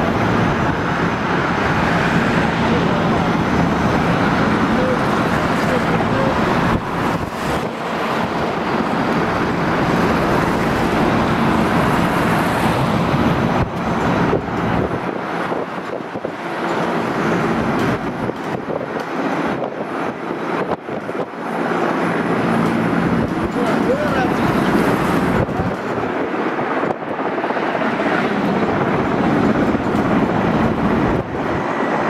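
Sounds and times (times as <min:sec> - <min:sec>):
helicopter flying low overhead: 0:00.0 - 0:32.0.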